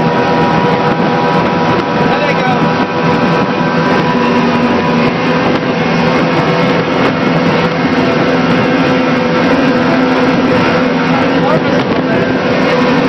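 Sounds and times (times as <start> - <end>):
powerboat engines running: 0.0 - 13.0
water noise: 0.0 - 13.0
wind: 0.0 - 13.0.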